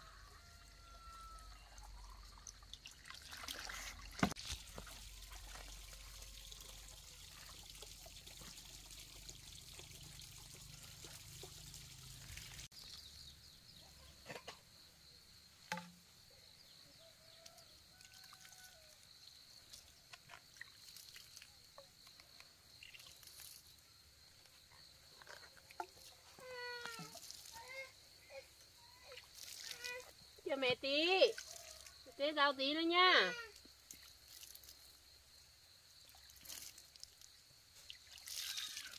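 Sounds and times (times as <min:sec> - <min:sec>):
water trickling onto plants: 0:00.5 - 0:13.2, 0:17.4 - 0:23.8, 0:25.2 - 0:35.2, 0:36.0 - 0:38.9.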